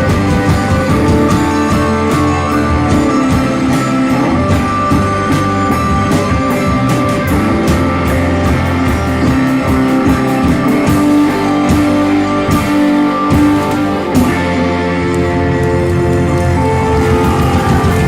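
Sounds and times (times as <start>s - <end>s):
band playing rock music: 0.0s - 18.0s.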